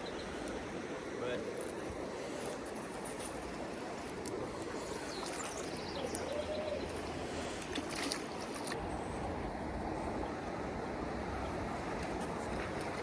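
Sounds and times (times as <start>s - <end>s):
fast river rushing: 0.0s - 13.0s.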